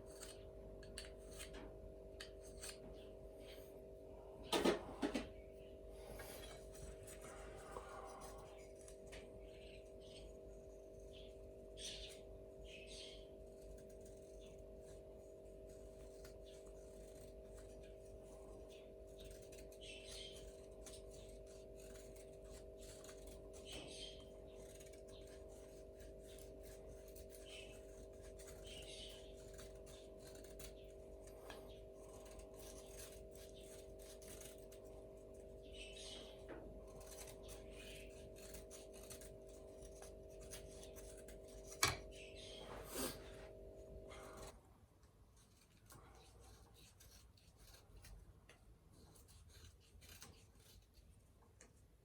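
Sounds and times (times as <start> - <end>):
faint scratching and rubbing: 0.0 - 51.9
steady low hum: 0.0 - 52.0.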